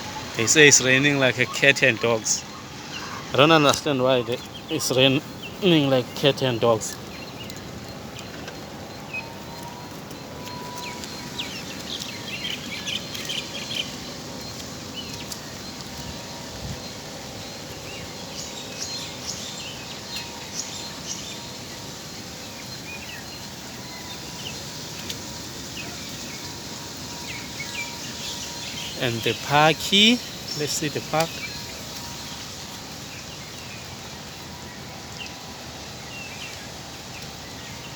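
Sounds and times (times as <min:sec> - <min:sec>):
birds chirping: 0:00.0 - 0:37.9
steady rain falling: 0:00.0 - 0:37.9.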